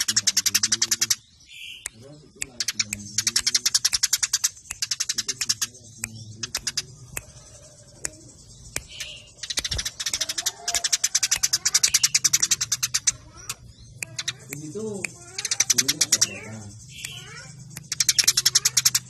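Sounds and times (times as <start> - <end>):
sparrows chirping rapidly: 0.0 - 19.0.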